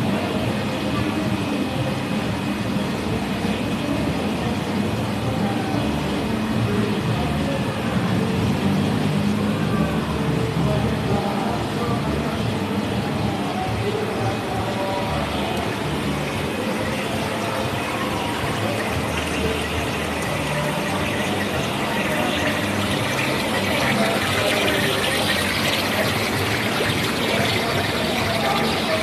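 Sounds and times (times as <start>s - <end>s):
water rushing through tanks: 0.0s - 29.0s.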